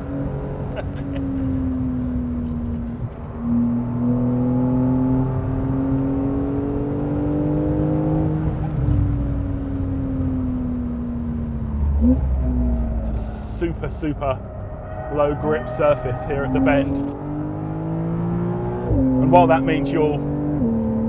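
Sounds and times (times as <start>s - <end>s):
car engine under throttle: 0.0s - 21.0s.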